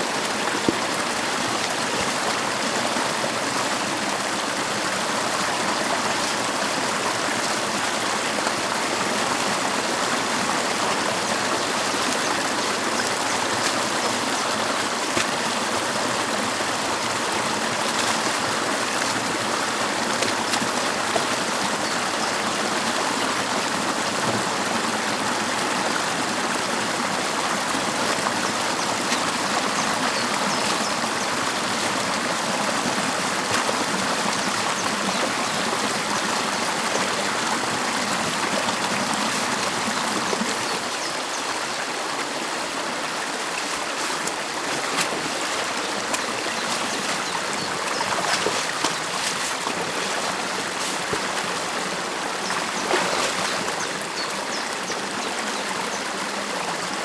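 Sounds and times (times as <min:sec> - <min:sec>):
stream water rushing and gurgling: 0:00.0 - 0:57.0.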